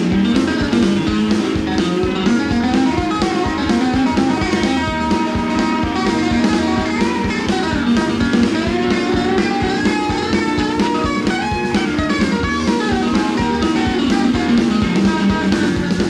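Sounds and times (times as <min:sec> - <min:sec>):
electric guitar quick runs: 0:00.0 - 0:16.0
steady drum beat: 0:00.0 - 0:16.0.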